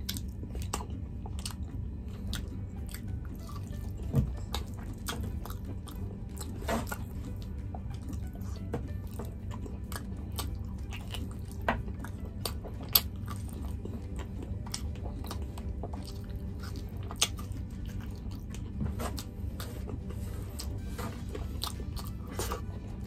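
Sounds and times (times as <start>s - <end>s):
person chewing and lip-smacking: 0.0s - 23.0s.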